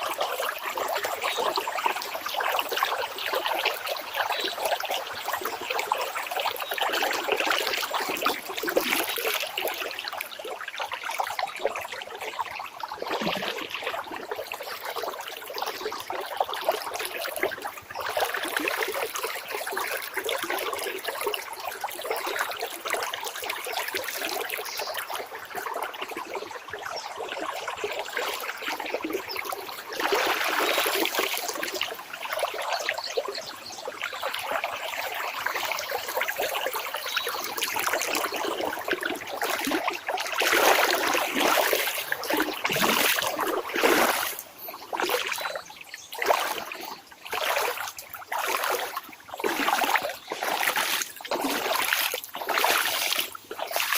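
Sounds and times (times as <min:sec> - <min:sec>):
water splashing: 0:00.0 - 0:12.4, 0:13.0 - 0:25.6, 0:27.3 - 0:53.9
water trickling: 0:00.0 - 0:53.9.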